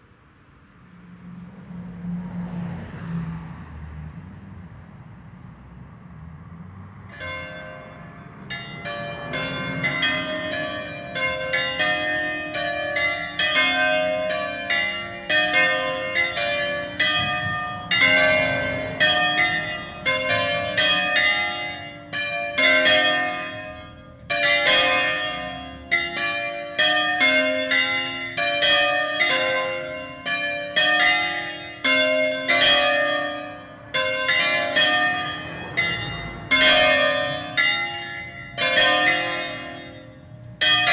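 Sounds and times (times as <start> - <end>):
church bells ringing: 6.9 - 40.9.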